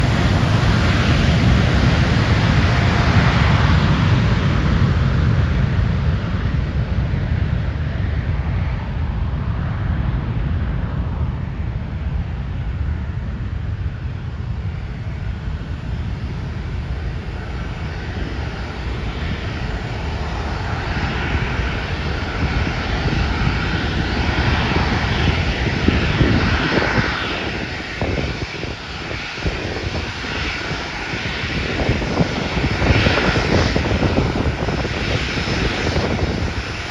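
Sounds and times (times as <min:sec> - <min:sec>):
jet engine roar: 0:00.0 - 0:36.9.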